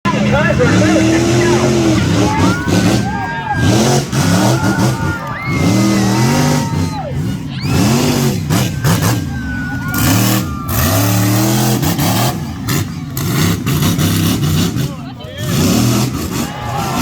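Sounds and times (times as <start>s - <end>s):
monster truck engine revving: 0.1s - 17.0s.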